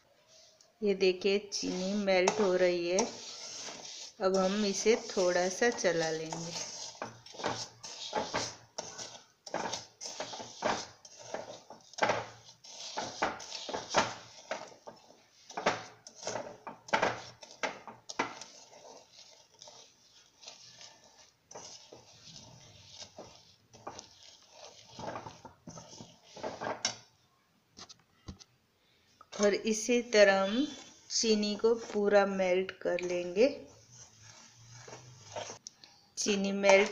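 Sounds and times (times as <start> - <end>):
metal spoon scraping metal pan: 1.5 - 27.1, 29.3 - 36.9.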